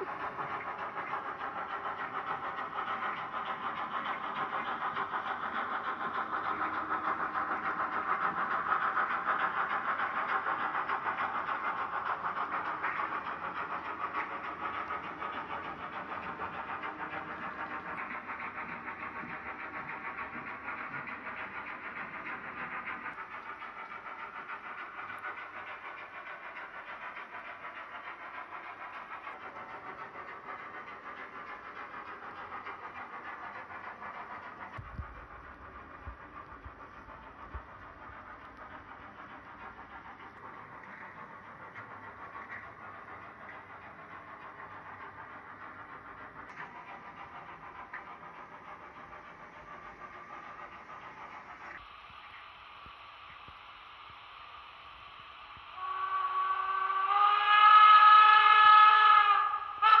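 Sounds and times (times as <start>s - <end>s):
model train whirring on track: 0.0s - 60.0s.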